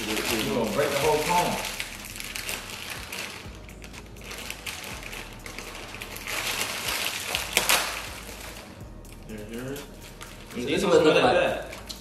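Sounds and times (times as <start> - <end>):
candy wrapper crinkling: 0.0 - 10.6.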